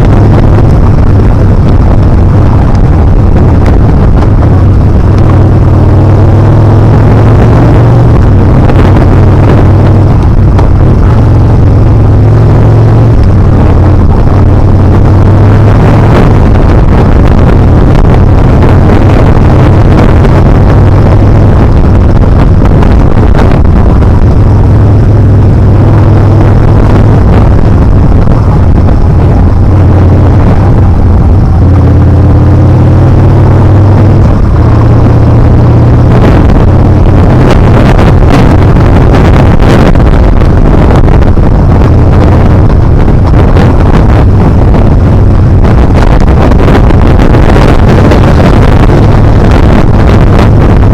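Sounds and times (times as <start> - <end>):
motorcycle engine running loudly: 0.0 - 50.9
wind noise on microphone: 0.0 - 50.9.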